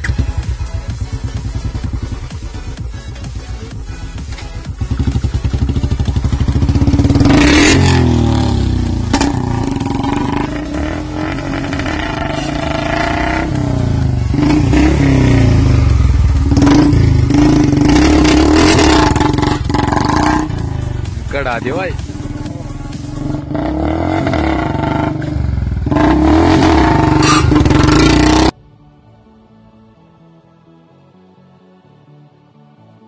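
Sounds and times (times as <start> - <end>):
motorcycle engine thumping and revving: 0.0 - 2.8, 4.2 - 28.6.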